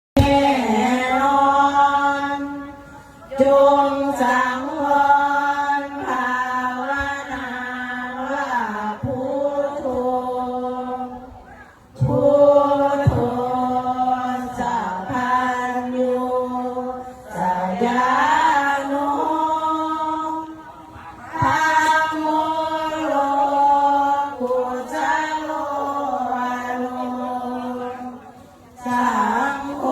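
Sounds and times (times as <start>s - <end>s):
unaccompanied vocal chanting: 0.0s - 29.9s.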